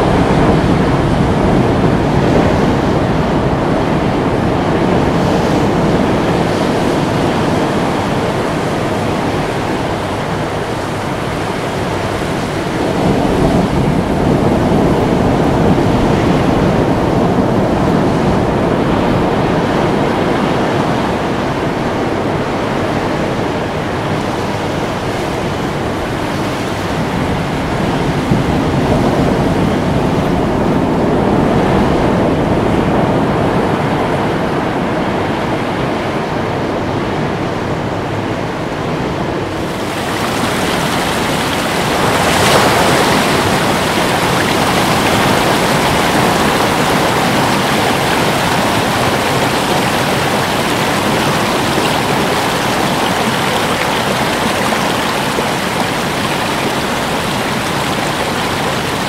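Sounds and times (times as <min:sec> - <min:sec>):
ocean waves breaking: 0:00.0 - 0:35.8, 0:38.4 - 0:59.0.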